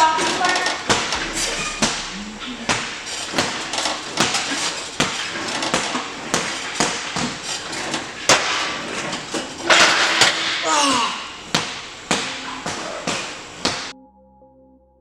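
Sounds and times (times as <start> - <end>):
gym weights clanking: 0.0 - 13.9
room noise: 0.0 - 13.9.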